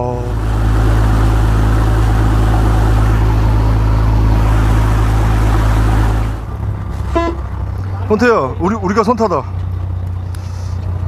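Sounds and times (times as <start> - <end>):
water rushing in wake: 0.0 - 9.0
boat engine droning: 0.0 - 11.0.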